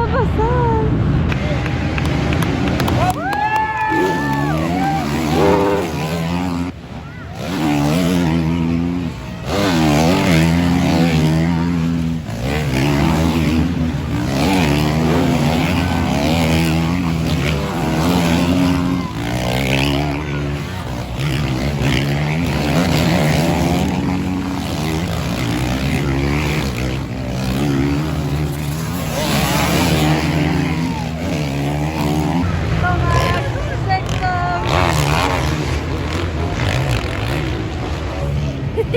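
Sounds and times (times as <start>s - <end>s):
motocross bikes revving: 1.4s - 38.9s.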